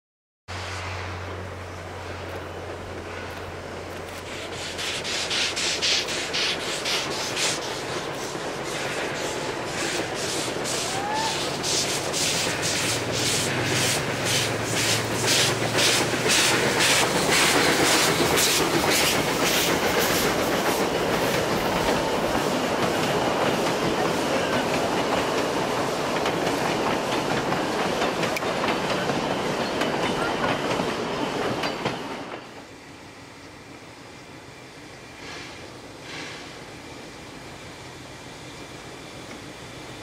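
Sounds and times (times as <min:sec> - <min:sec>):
steam locomotive chuffing: 0:00.5 - 0:40.0
wheels rumbling on rail: 0:00.5 - 0:40.0.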